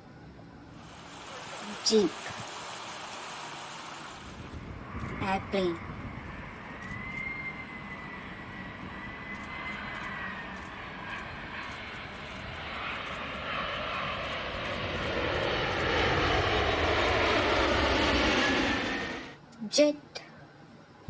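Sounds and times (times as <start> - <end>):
airplane engine: 0.0 - 19.5
thin high whine: 0.8 - 19.4.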